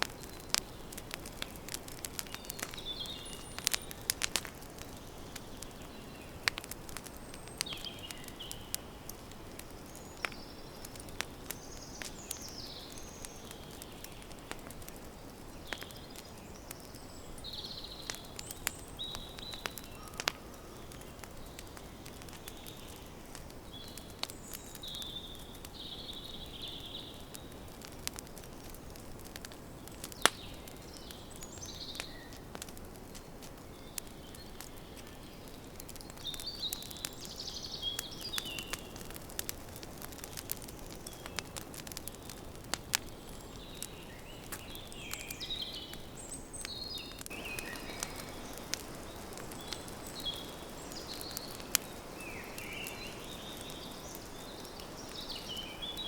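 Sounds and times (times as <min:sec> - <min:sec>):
campfire crackling and popping: 0:00.0 - 0:56.0
small birds chirping: 0:00.0 - 0:56.0.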